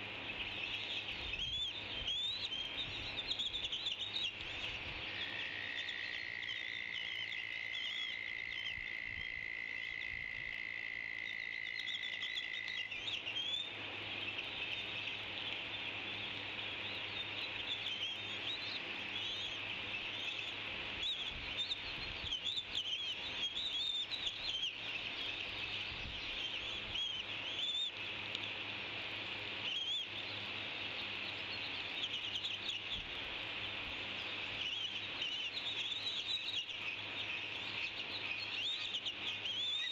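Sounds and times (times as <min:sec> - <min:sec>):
chorus of chirping animal calls: 0:00.0 - 0:28.0, 0:31.0 - 0:39.9.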